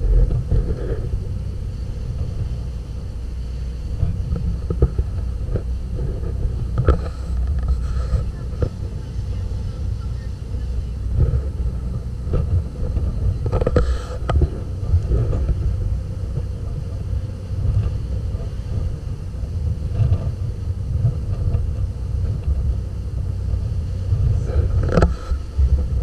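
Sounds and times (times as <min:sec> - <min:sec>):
boat engines running: 0:00.0 - 0:26.0
wind buffeting microphone: 0:00.0 - 0:26.0.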